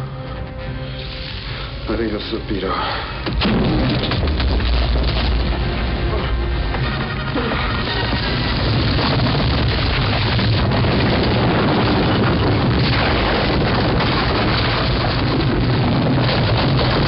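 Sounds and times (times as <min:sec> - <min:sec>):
boulder rolling rumble: 0:03.2 - 0:17.0.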